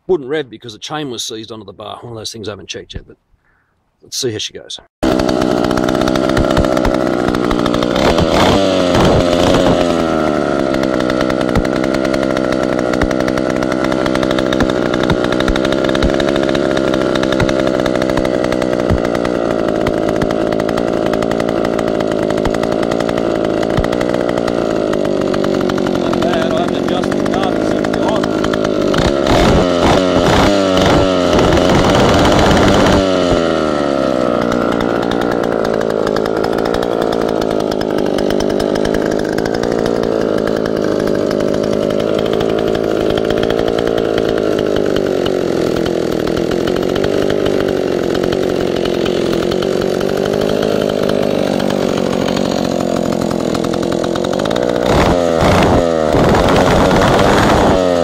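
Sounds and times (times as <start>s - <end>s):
chainsaw revving and idling: 5.0s - 58.0s.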